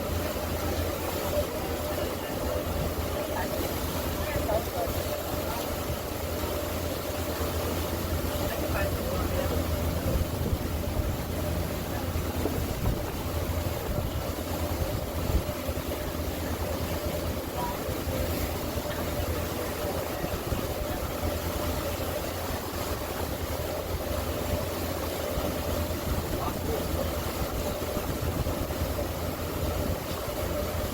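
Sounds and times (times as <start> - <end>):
boat engine drone: 0.0 - 30.9.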